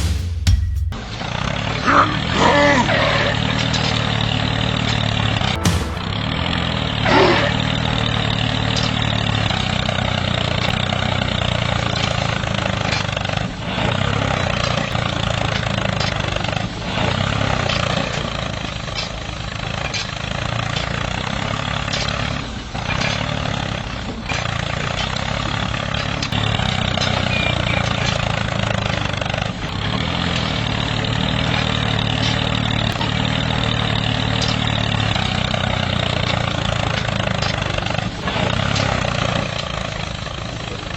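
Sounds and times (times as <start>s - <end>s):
small tractor engine running: 1.0s - 5.6s, 6.5s - 40.9s.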